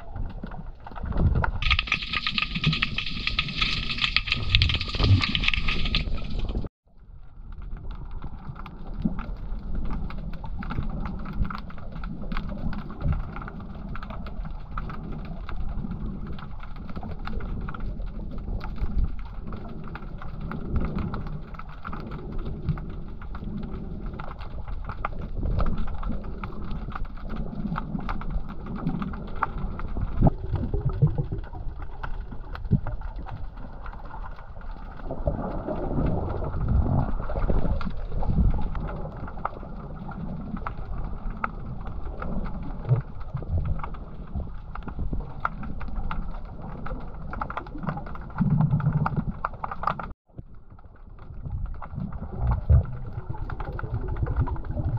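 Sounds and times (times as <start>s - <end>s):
bubbles crackling and ticking: 0.0s - 54.9s
muffled underwater rush: 0.0s - 54.9s.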